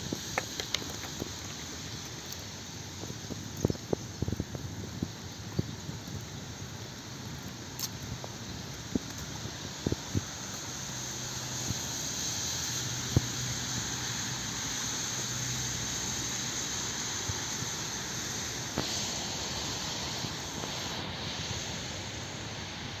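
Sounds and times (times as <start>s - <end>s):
outdoor background roar: 0.0s - 23.0s.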